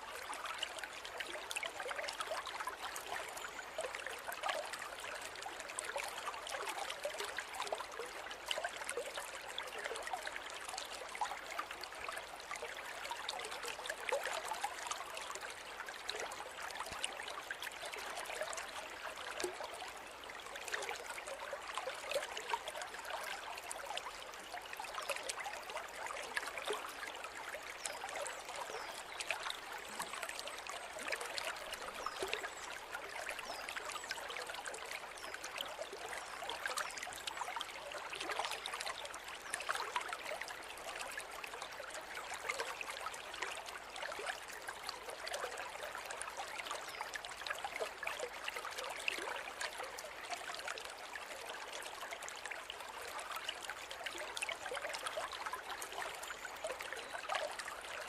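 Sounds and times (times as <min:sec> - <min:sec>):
river water babbling: 0:00.0 - 0:58.0.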